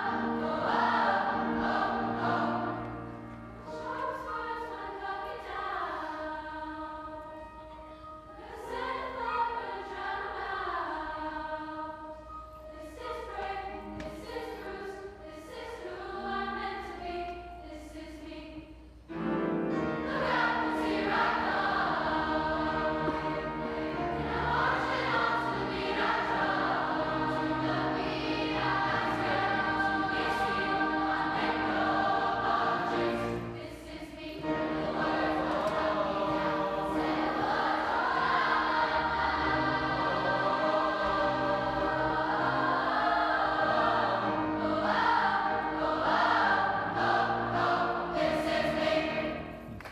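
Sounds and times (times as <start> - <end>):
choir singing in parts: 0.0 - 49.9.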